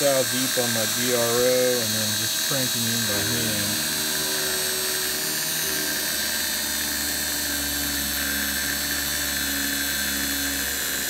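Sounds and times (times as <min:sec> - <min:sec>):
end mill cutting metal: 0:00.0 - 0:11.0
motor spinning with high whine: 0:00.0 - 0:11.0.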